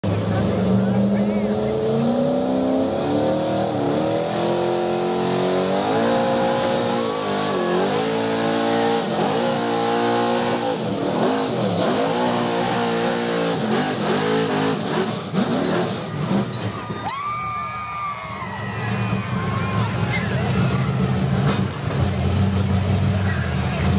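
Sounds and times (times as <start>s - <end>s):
truck engine at high revs: 0.0s - 16.9s, 18.8s - 23.9s.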